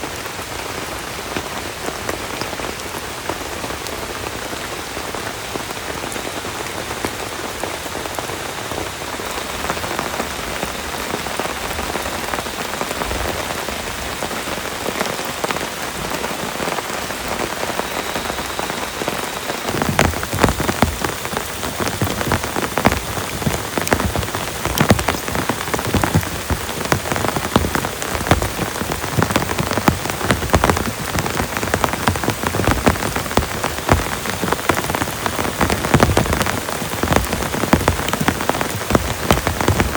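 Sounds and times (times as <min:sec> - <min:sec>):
heavy rain falling: 0:00.0 - 0:39.9
raindrops tapping on surface: 0:00.0 - 0:39.9.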